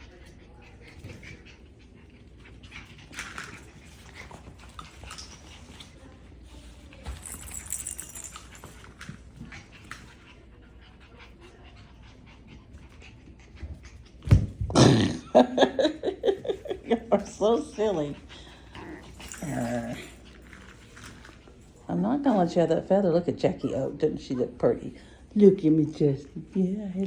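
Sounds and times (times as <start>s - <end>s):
puppies panting: 0.0s - 14.3s, 15.3s - 27.0s.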